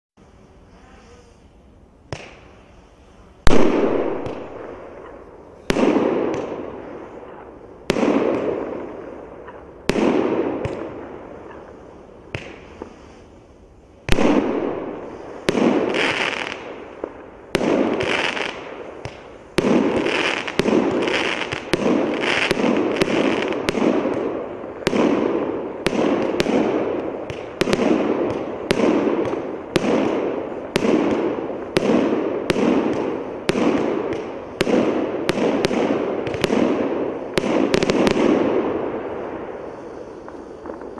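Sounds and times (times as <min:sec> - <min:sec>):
firework bangs with echo: 0:03.4 - 0:13.0, 0:14.0 - 0:40.9.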